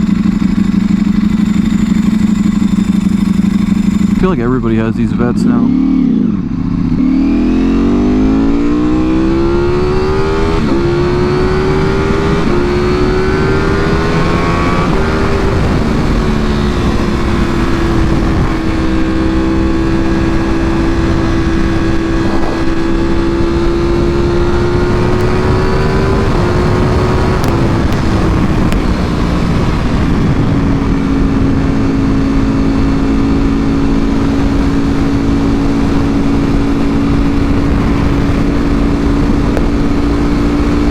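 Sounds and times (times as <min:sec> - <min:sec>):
motorcycle engine accelerating: 0:00.0 - 0:40.9
wind rushing over microphone: 0:04.2 - 0:40.9.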